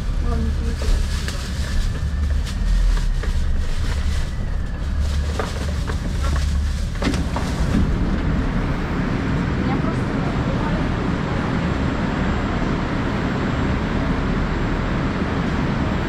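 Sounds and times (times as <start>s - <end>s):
train equipment hum: 0.0s - 16.0s.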